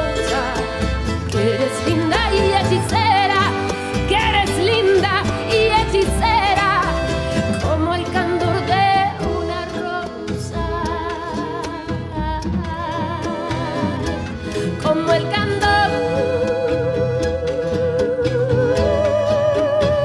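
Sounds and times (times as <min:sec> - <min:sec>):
acoustic band playing: 0:00.0 - 0:20.0.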